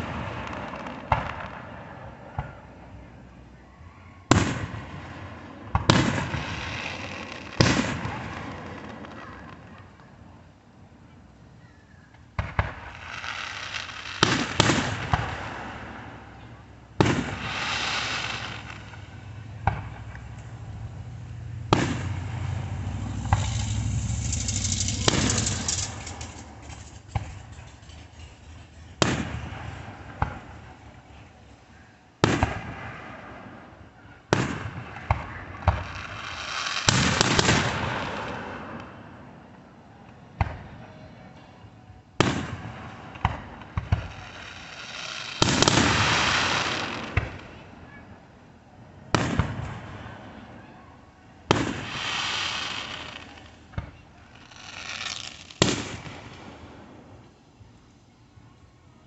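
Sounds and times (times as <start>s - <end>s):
firework bangs: 0.0s - 2.8s, 4.2s - 10.3s, 12.3s - 31.3s, 32.2s - 39.3s, 42.2s - 47.9s, 49.1s - 50.5s, 51.4s - 57.2s
crackling firework showers: 0.0s - 59.0s.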